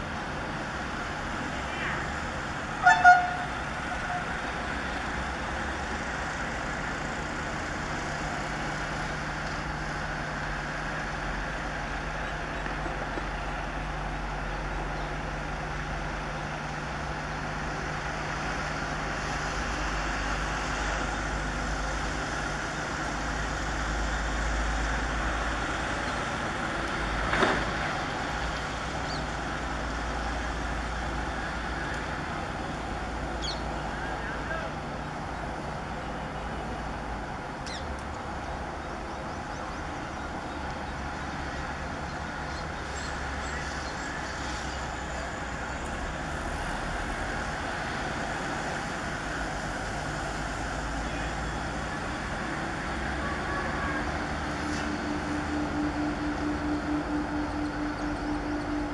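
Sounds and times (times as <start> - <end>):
diesel locomotive engine drone: 0.0 - 58.9.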